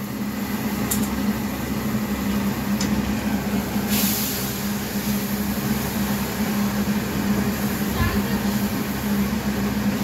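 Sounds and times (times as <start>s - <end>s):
electric fan motor hum: 0.0s - 10.0s.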